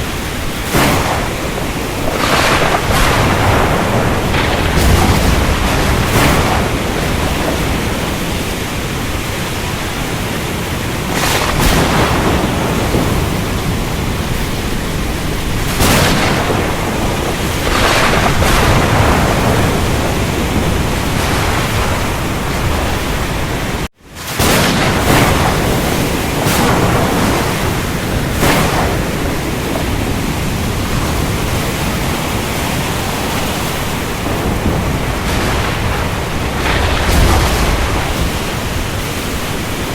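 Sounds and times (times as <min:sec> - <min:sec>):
rain roaring: 0:00.0 - 0:39.9
thunder rumbling: 0:00.0 - 0:39.9
waves breaking: 0:00.0 - 0:39.9.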